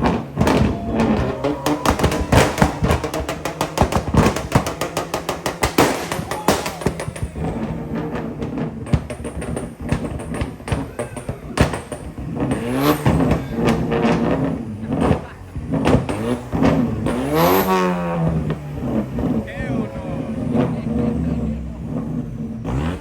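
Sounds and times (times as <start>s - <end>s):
car engine revving hard: 0.0s - 23.0s
exhaust pops and cracks: 0.0s - 23.0s.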